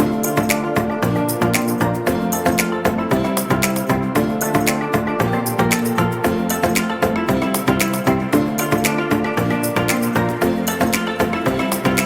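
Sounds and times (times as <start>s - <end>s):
background music with plucked guitar: 0.0s - 12.0s.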